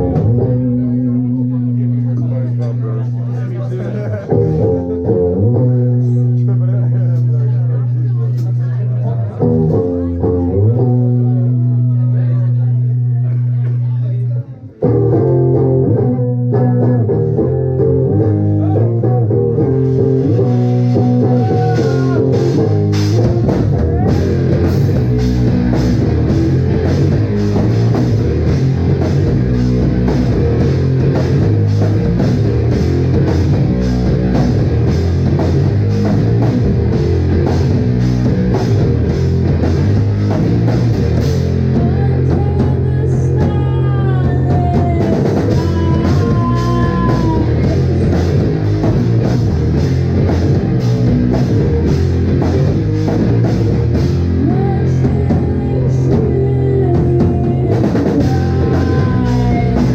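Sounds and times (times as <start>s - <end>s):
drum kit: 0.0s - 8.6s, 14.8s - 59.9s
rock band playing: 0.0s - 59.9s.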